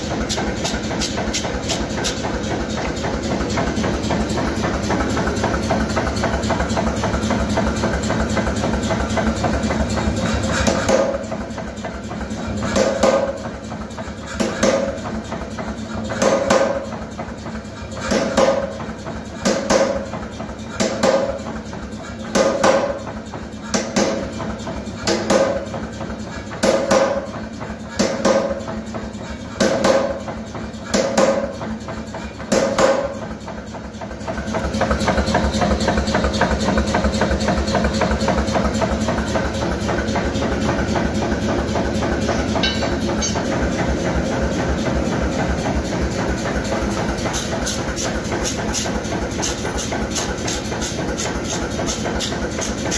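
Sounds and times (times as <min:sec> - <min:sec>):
steady mechanical rattle: 0:00.0 - 0:52.9.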